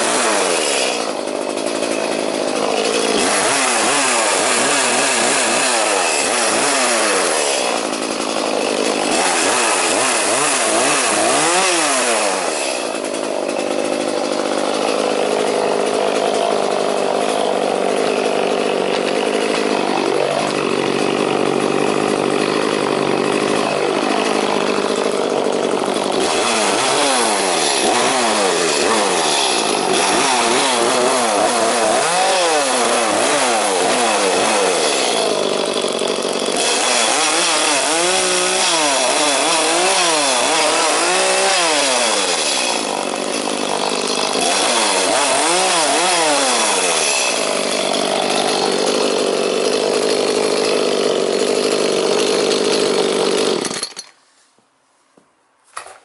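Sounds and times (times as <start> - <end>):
chainsaw cutting branches: 0.0 - 54.2.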